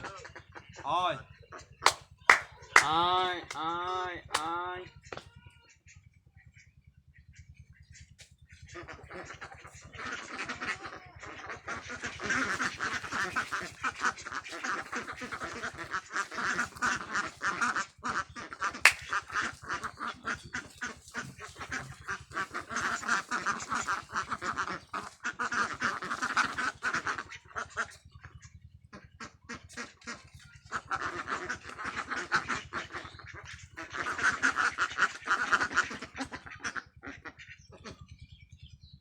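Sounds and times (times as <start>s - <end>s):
ducks quacking: 0.0s - 38.2s.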